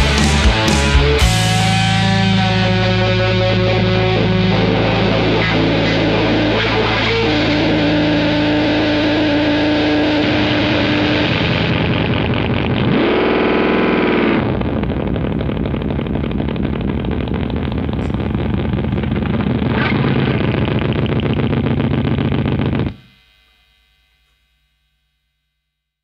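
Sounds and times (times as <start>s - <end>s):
distorted guitar noise: 0.0s - 25.5s.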